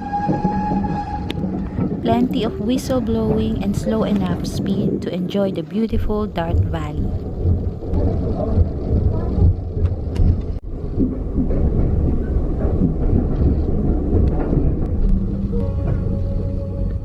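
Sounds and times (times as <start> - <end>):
clicks and knocks of train: 0.0 - 17.0
steam train rumbling: 0.0 - 17.0.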